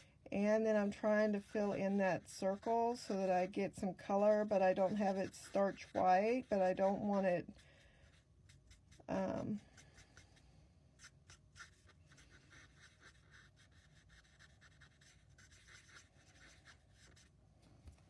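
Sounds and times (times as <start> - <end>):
marker scratching on cardstock: 0.6 - 17.4.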